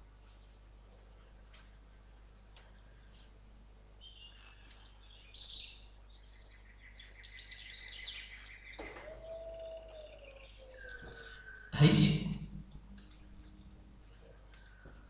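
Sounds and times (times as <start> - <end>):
faint birdsong chirps: 0.2 - 15.0.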